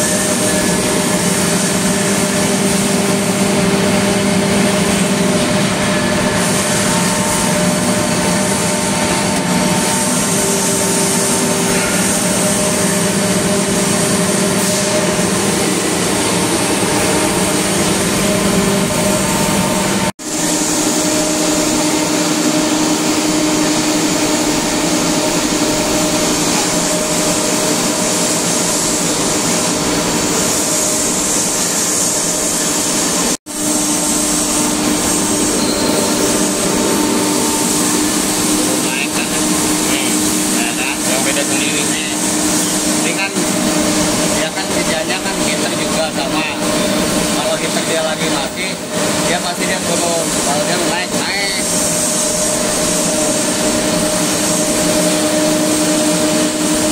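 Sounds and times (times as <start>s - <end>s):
air compressor running: 0.0s - 56.9s.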